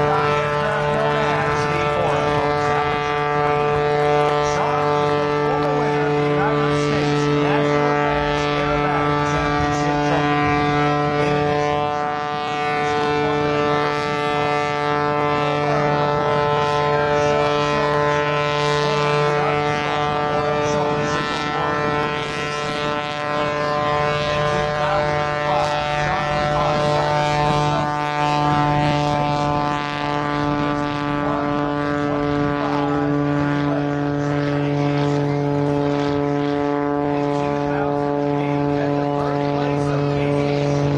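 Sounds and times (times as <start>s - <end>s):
biplane engine droning: 0.0s - 40.9s.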